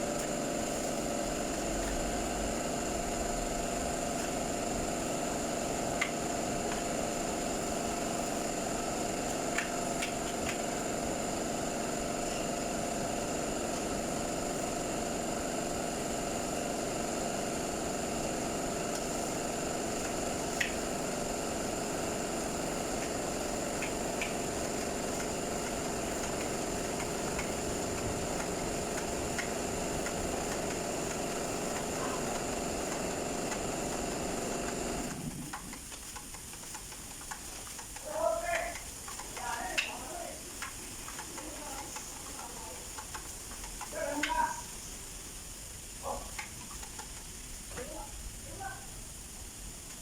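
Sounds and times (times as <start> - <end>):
machine whining and hissing: 0.0 - 50.0.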